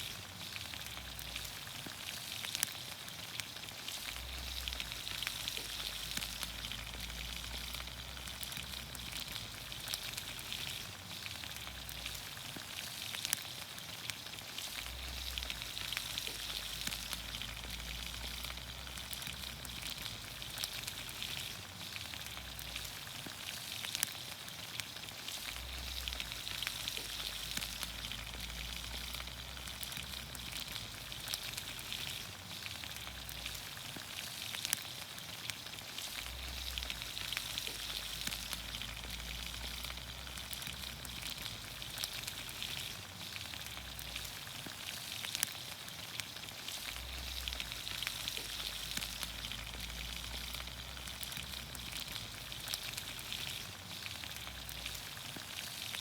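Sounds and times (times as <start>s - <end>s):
crackles and pops: 0.0s - 56.0s
vegetables sizzling in a pan: 0.0s - 56.0s.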